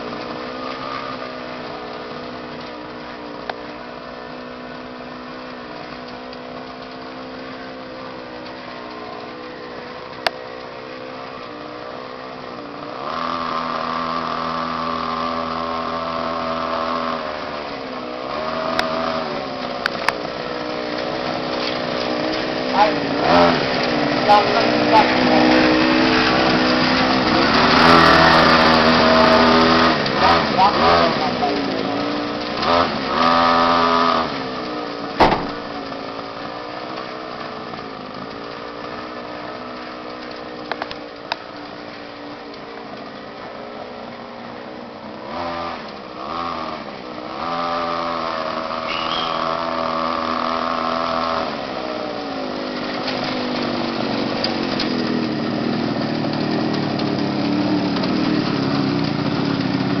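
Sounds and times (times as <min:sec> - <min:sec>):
small motorcycle engine revving: 0:00.0 - 1:00.0.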